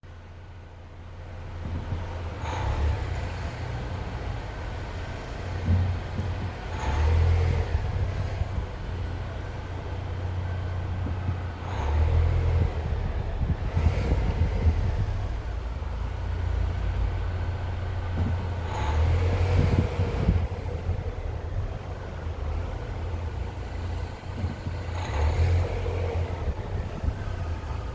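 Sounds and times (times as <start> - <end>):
car engine knocking: 1.3 - 27.9
low rumble: 3.9 - 27.9.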